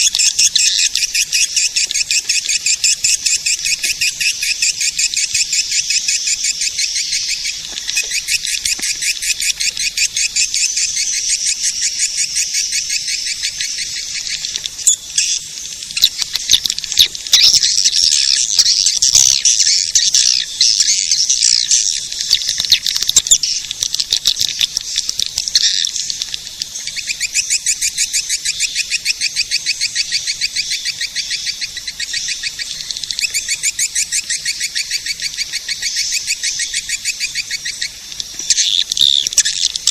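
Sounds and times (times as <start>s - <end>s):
swiftlet chirps twittering: 0.0s - 26.2s, 26.8s - 39.9s.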